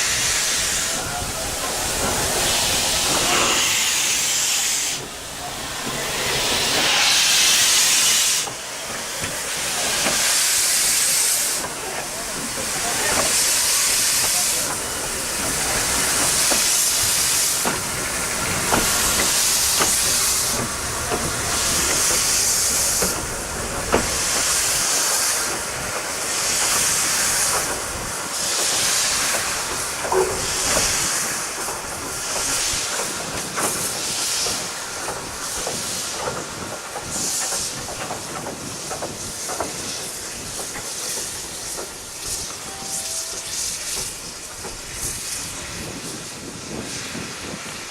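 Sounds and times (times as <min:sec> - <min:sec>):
loud steam hissing bursts: 0:00.0 - 0:47.9
steam locomotive chuffing: 0:00.0 - 0:47.9.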